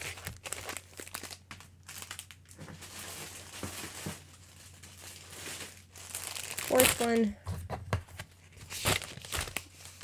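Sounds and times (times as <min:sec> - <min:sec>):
plastic bag crinkling: 0:00.0 - 0:07.3, 0:08.6 - 0:10.0
papers rustling: 0:00.0 - 0:10.0.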